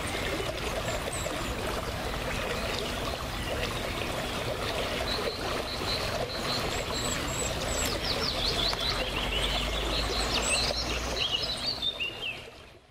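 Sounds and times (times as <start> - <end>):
small birds chirping: 0.0 - 12.5
river water flowing: 0.0 - 12.9.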